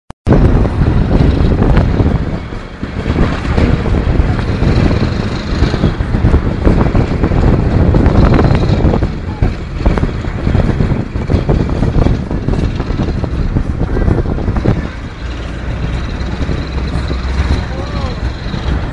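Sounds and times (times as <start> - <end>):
vehicle road rumble: 0.2 - 18.9
wind buffeting microphone: 0.2 - 18.9.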